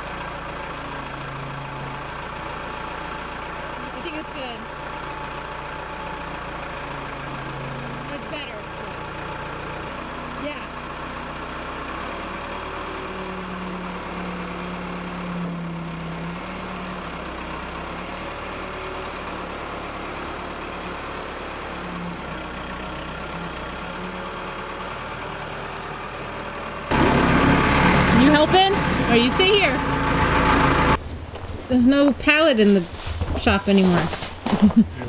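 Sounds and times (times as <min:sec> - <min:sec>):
diesel engine idling: 0:00.0 - 0:32.6.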